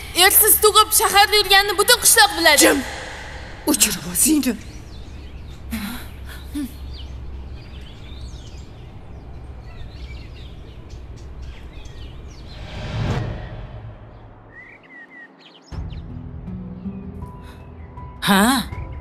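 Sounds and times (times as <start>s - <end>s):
birds chirping: 0.0s - 12.8s, 14.0s - 19.0s.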